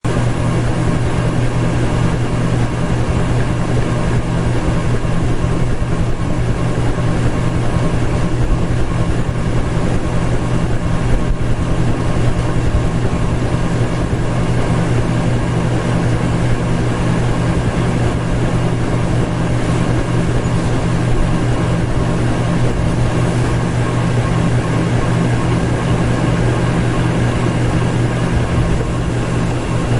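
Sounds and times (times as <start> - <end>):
ceiling fan motor hum: 0.0 - 29.9.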